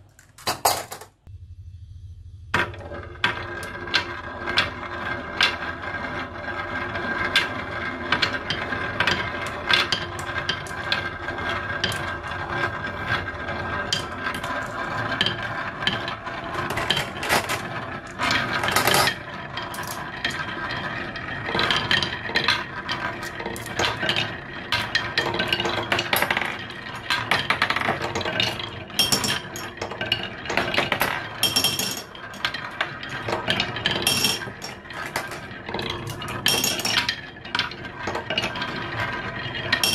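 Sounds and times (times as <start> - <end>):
marbles rolling on wooden tracks: 2.6 - 39.9.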